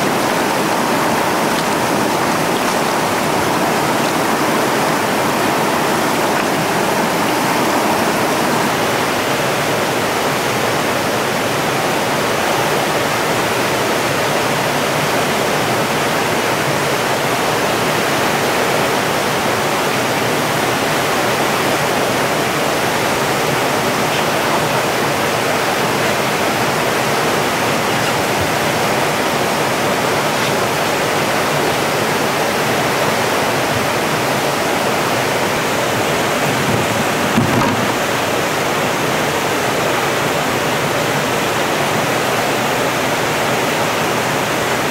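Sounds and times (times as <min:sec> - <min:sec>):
whitewater rapids rushing: 0:00.0 - 0:44.9.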